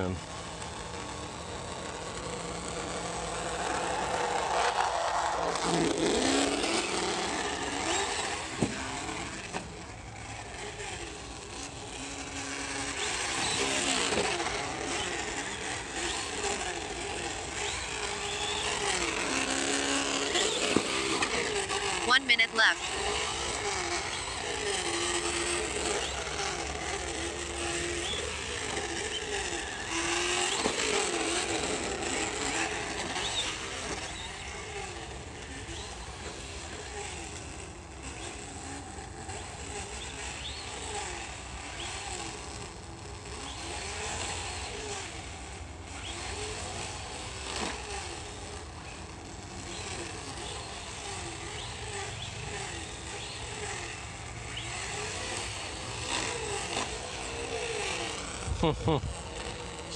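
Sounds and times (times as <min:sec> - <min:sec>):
recorded engine through small speakers: 0:00.0 - 0:59.9.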